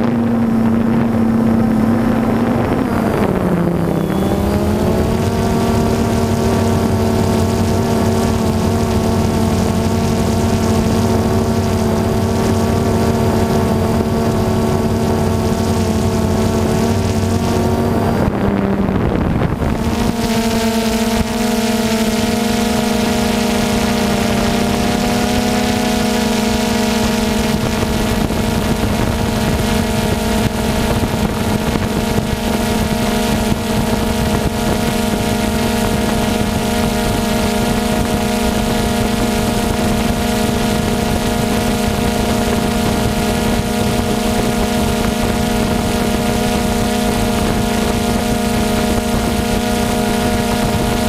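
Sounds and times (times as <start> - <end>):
drone propellers humming: 0.0 - 51.0.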